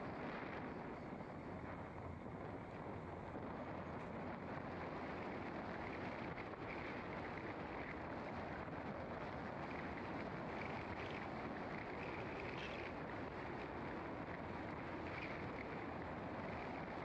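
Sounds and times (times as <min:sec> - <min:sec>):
car tyre and wind noise: 0:00.0 - 0:17.0.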